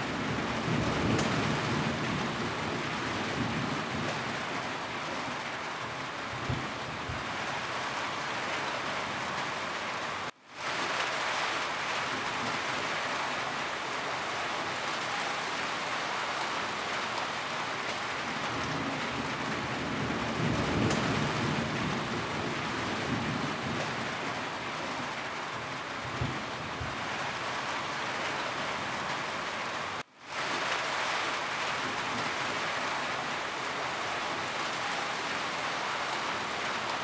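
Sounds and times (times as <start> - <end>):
rain falling on a roof: 0.0 - 37.0.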